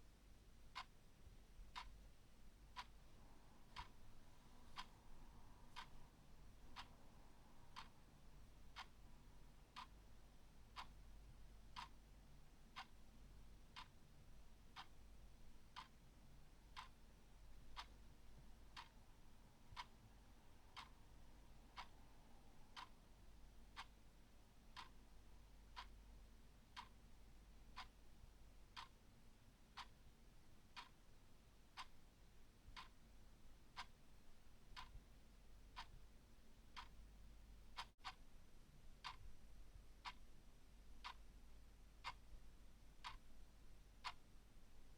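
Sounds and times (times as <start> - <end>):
low steady hum: 0.0 - 44.9
clock ticking faintly: 0.4 - 44.9.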